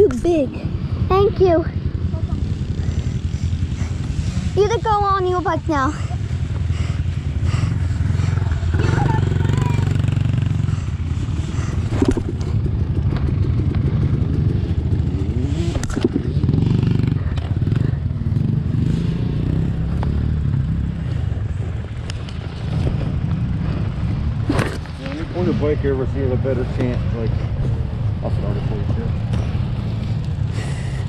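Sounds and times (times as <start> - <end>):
dirt bike engine at low revs: 0.0 - 31.0.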